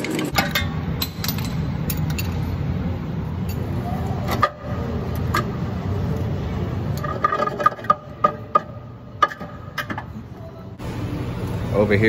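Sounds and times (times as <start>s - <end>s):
steady low hum: 0.3s - 12.0s.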